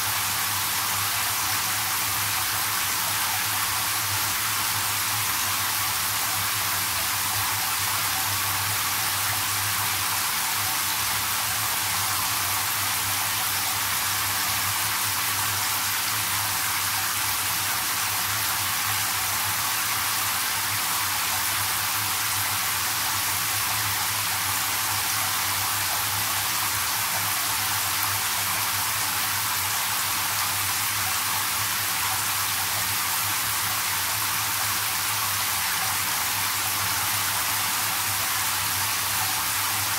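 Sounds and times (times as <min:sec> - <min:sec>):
shower spraying into bathtub: 0:00.0 - 0:39.9.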